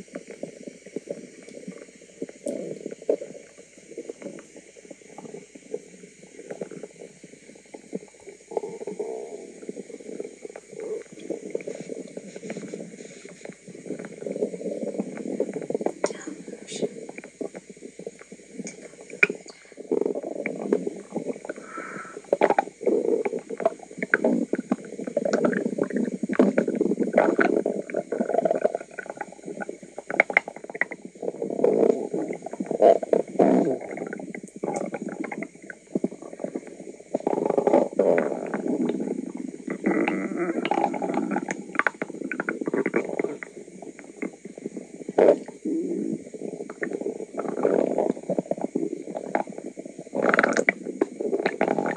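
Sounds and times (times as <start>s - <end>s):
stomach gurgling: 0.0s - 51.9s.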